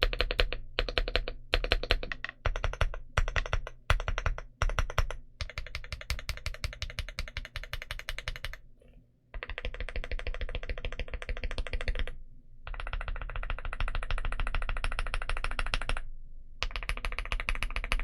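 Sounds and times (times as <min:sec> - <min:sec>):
fast typing on mechanical keyboard: 0:00.0 - 0:08.6, 0:09.4 - 0:18.0.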